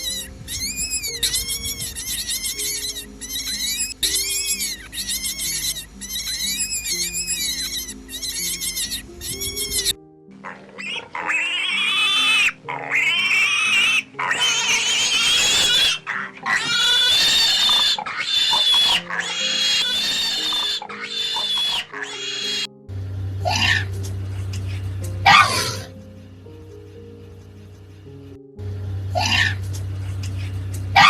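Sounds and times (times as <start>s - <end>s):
pig squealing: 0.0s - 22.7s, 23.4s - 26.0s, 29.2s - 31.0s
background music: 0.0s - 31.0s.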